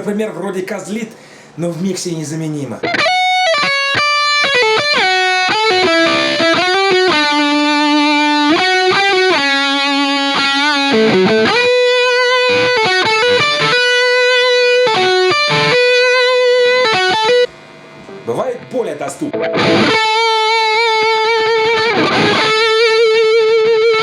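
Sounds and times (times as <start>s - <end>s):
electric guitar lead with vibrato: 2.8s - 18.4s, 19.3s - 24.0s.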